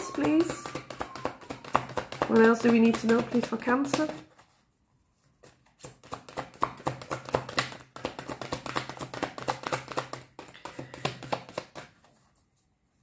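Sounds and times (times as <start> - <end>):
cards being shuffled: 0.0 - 4.6, 5.4 - 12.3.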